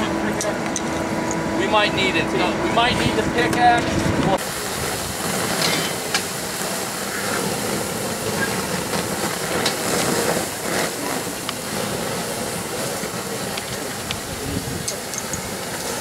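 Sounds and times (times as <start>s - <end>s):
steam hissing: 0.0s - 16.0s.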